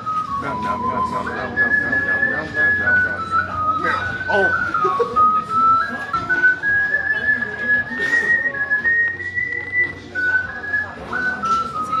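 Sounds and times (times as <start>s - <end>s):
person whistling a tune: 0.0s - 12.0s.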